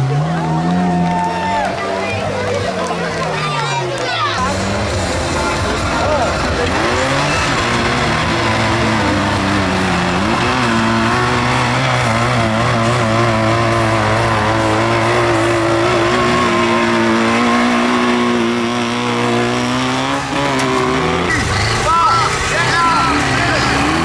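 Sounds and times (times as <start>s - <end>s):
tractor engine revving: 0.0s - 24.0s.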